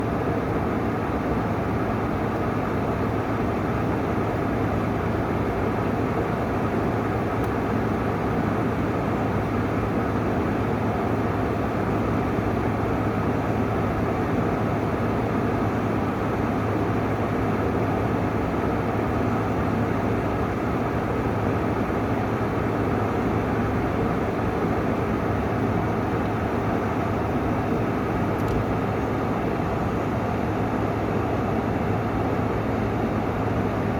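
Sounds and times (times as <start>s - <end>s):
window air conditioner running: 0.0s - 33.9s.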